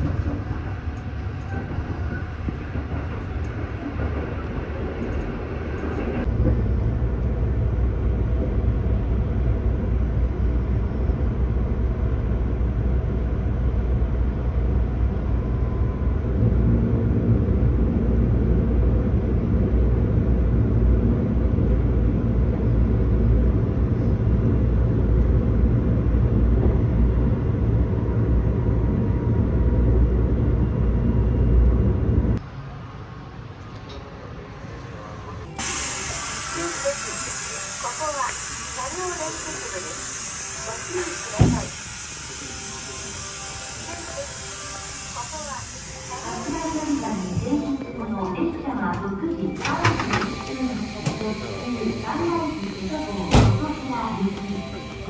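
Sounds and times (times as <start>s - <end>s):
train rumble from inside: 0.0s - 55.0s.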